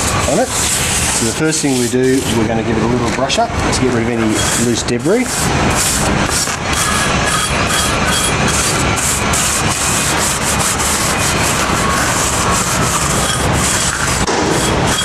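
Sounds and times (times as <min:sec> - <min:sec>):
brush scrubbing rusty metal: 0:00.0 - 0:15.0.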